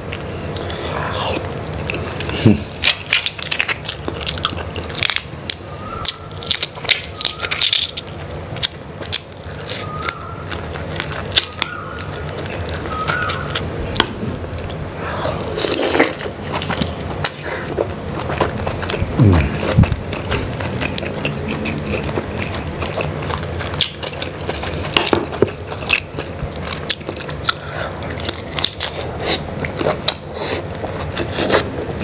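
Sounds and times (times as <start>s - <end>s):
wet chewing and sucking: 0.5s - 32.0s.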